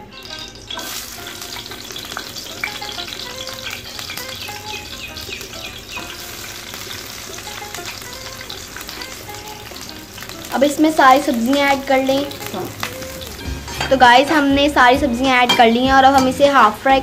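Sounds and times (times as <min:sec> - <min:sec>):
onion sizzling in hot oil: 0:00.0 - 0:17.0.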